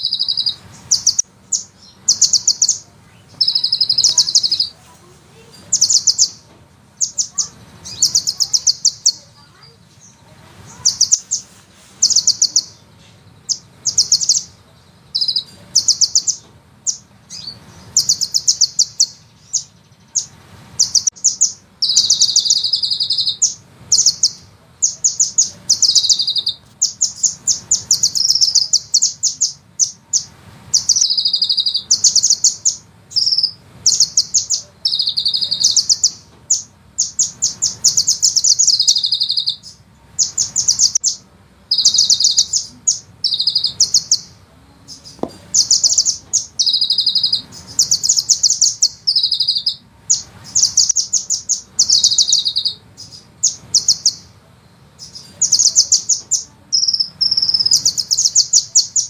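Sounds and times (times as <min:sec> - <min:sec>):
sunbird fast trilling song: 0:00.0 - 0:54.4, 0:55.0 - 0:59.0.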